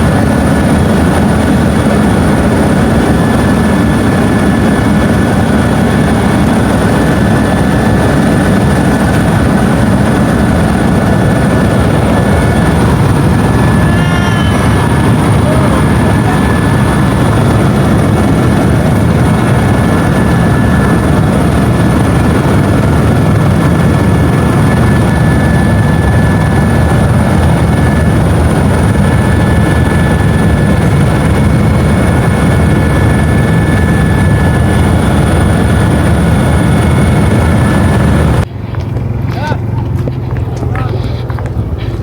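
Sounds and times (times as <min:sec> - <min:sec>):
helicopter rotor and engine drone: 0:00.0 - 0:42.0.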